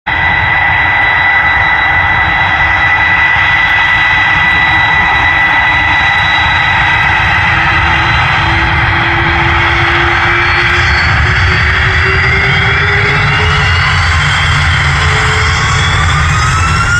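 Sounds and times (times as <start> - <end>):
jet engine roar: 0.0 - 16.9
high steady whine: 0.1 - 16.9
low rising tone: 0.1 - 16.9.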